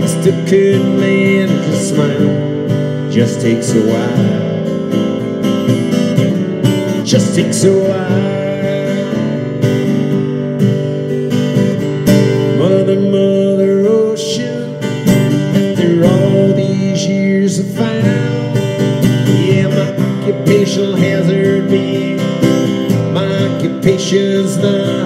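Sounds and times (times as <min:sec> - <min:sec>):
acoustic guitar strummed chords: 0:00.0 - 0:25.0.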